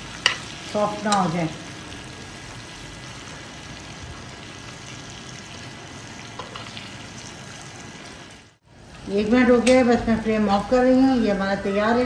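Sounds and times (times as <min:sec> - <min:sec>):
chillies sizzling in hot oil: 0:00.0 - 0:11.8.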